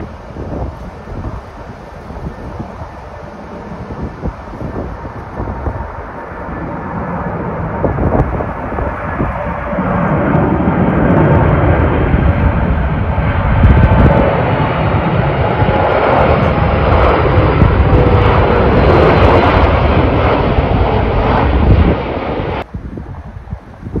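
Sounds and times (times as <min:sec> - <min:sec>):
jet airliner engines roaring: 0:00.0 - 0:24.0.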